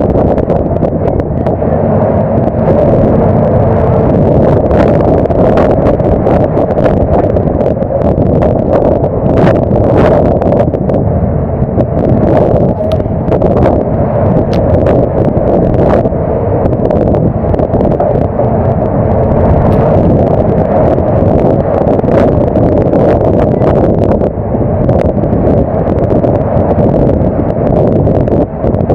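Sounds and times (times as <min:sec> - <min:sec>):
heavy seas rushing: 0:00.0 - 0:28.9
wind buffeting microphone: 0:00.0 - 0:28.9.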